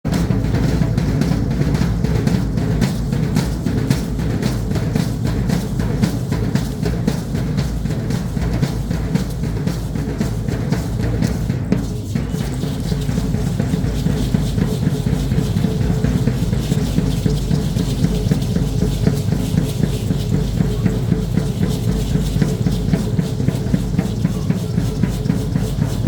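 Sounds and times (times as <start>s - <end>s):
deep drum beaten fast: 0.0s - 26.0s.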